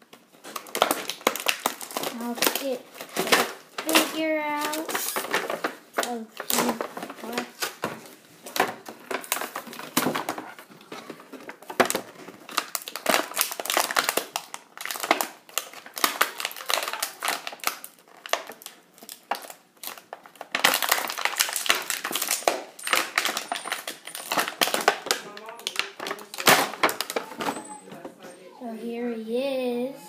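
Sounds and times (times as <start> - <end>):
plastic packaging crinkling: 0.0 - 27.8.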